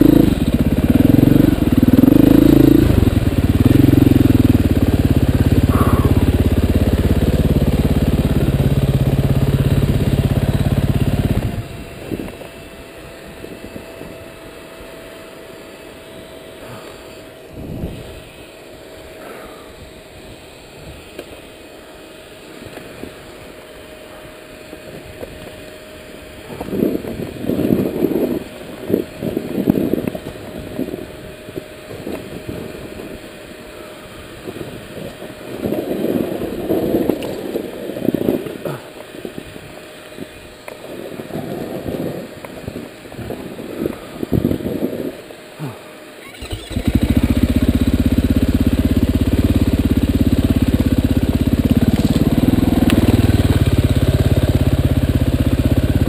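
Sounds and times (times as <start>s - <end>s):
dirt bike engine at low speed: 0.0s - 56.0s.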